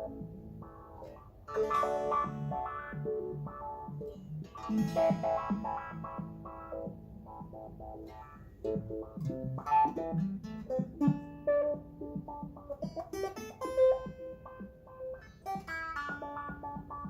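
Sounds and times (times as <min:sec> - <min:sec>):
plucked synth notes: 0:00.0 - 0:17.0.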